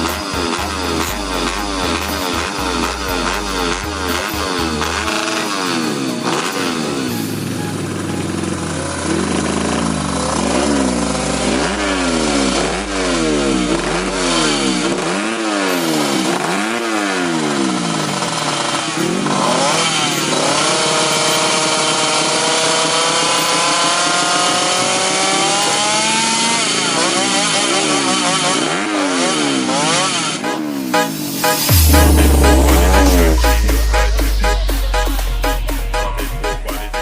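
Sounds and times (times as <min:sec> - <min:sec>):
dirt-bike engines revving: 0:00.0 - 0:34.6.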